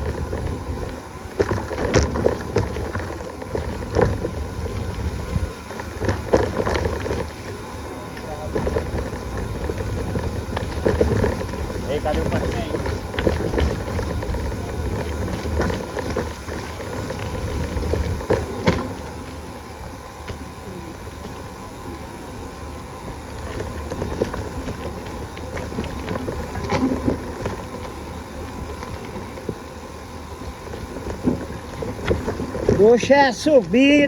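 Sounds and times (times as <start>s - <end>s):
bicycle rattles and knocks: 0.0s - 34.0s
bicycle rumbling on rough trail: 0.0s - 34.0s.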